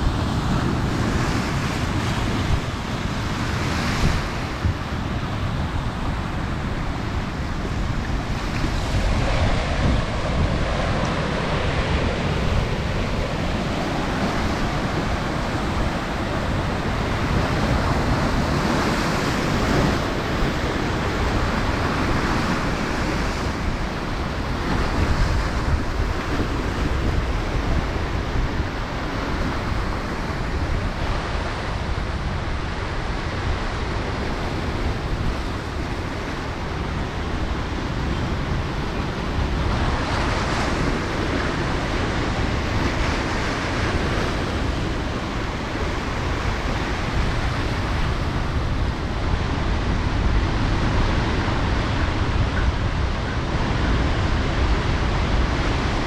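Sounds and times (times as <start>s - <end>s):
wind and waves rushing: 0.0s - 56.0s
wind buffeting microphone: 0.0s - 56.0s.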